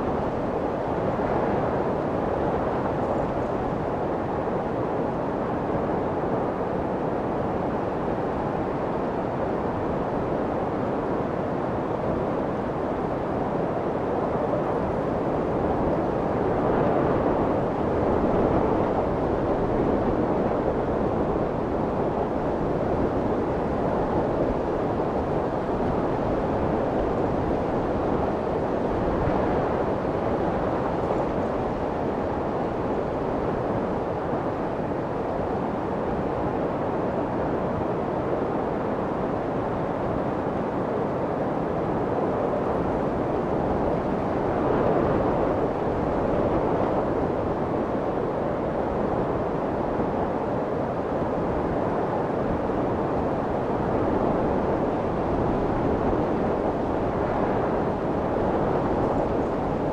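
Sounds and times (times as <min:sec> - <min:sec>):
rushing white noise: 0:07.5 - 0:59.9.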